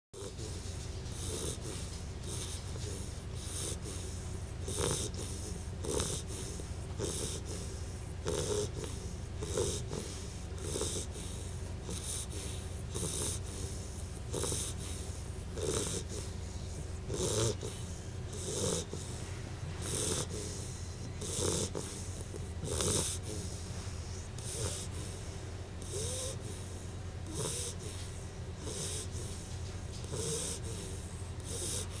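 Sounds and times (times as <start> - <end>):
puppy snoring: 0.2 - 32.0.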